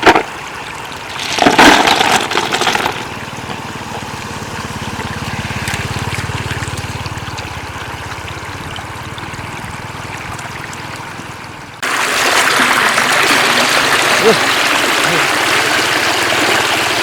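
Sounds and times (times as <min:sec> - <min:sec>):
floodwater running and trickling: 0:00.0 - 0:17.0
rush of water: 0:00.0 - 0:17.0.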